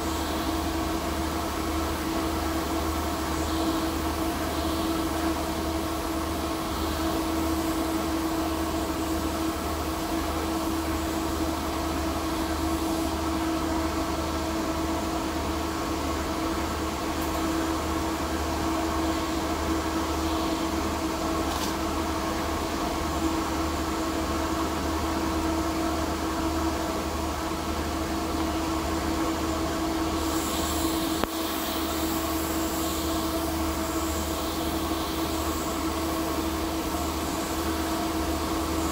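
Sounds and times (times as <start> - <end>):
faint high welding arc hiss: 0.0 - 38.9
ventilation blower drone: 0.0 - 38.9.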